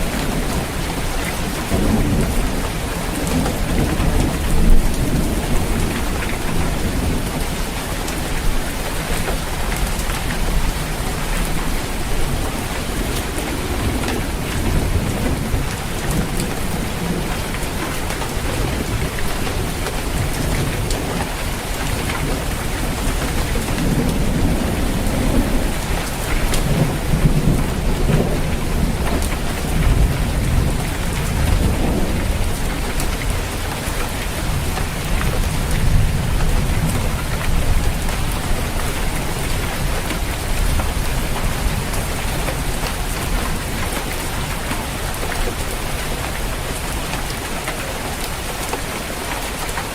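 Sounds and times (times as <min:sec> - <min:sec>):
low rolling thunder: 0:00.0 - 0:47.4
heavy rain drumming on a roof: 0:00.0 - 0:49.9.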